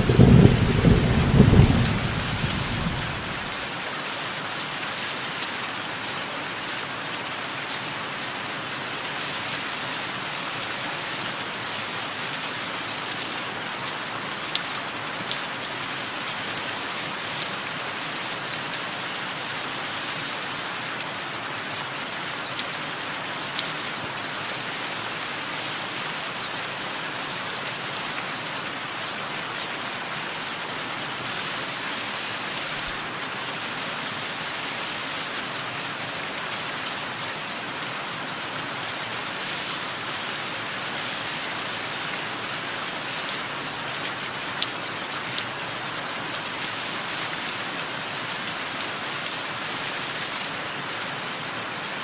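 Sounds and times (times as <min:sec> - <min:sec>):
rain hiss: 0:00.0 - 0:52.0.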